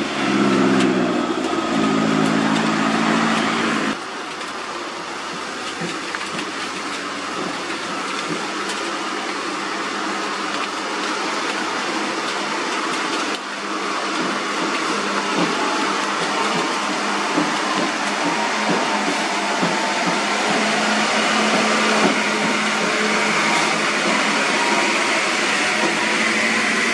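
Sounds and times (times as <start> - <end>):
diesel truck engines: 0.0 - 26.9.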